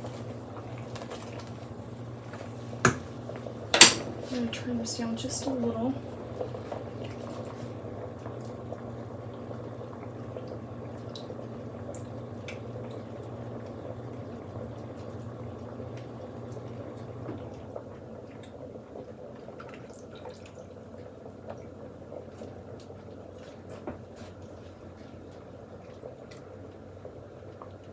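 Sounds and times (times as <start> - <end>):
water boiling and bubbling: 0.0 - 27.9.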